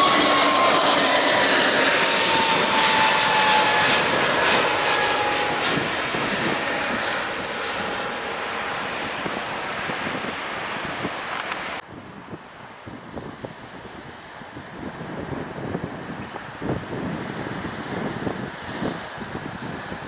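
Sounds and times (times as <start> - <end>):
jet airliner passing: 0.0 - 11.8, 12.6 - 20.0.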